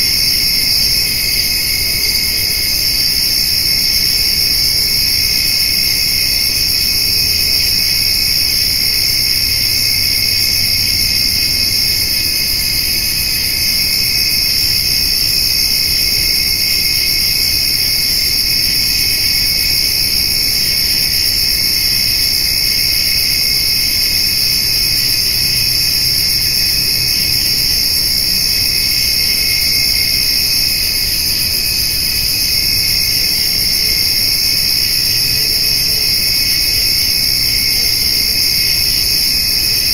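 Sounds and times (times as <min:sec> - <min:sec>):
crickets and grasshoppers trilling: 0:00.0 - 0:39.9.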